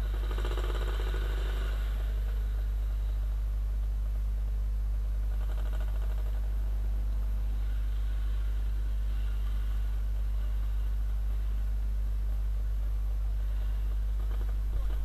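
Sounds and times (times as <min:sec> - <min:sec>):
motorcycle engines idling: 0:00.0 - 0:04.2, 0:05.2 - 0:15.0.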